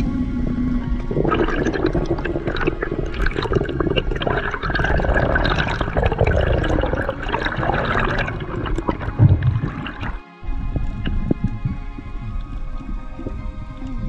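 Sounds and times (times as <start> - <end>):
water rushing and bubbling: 0.0 - 14.0.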